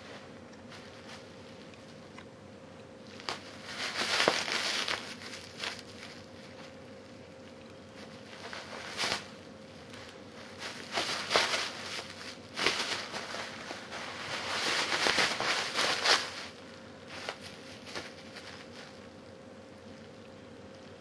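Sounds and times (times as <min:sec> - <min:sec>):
bubble wrap crinkling: 0:03.0 - 0:20.2.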